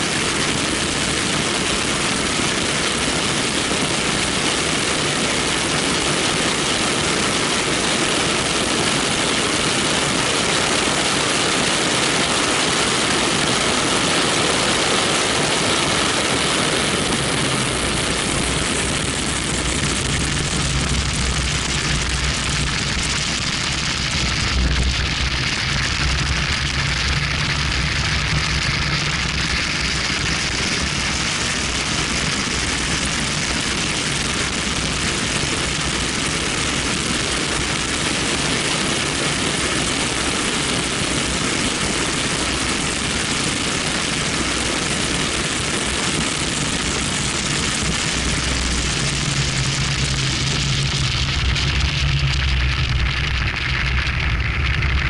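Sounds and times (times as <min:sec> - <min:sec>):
wind noise over microphone: 0:00.0 - 0:55.0.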